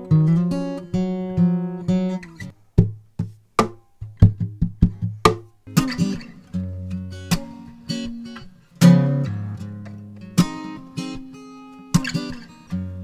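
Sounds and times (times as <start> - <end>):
fingerstyle acoustic guitar: 0.0 - 13.0.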